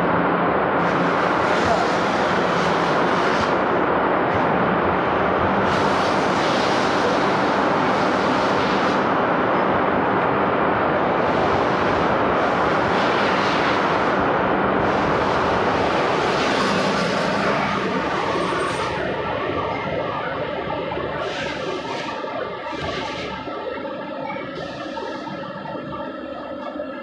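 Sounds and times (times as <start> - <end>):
machine tools running: 0.0 - 27.0.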